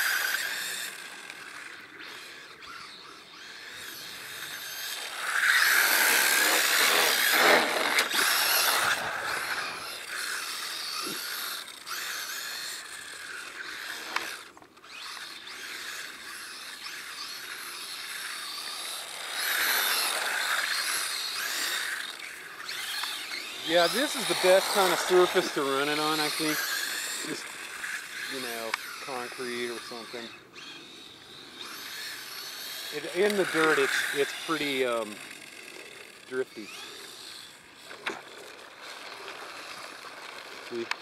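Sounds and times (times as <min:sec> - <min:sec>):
toy car electric motor whining: 0:00.0 - 0:41.0.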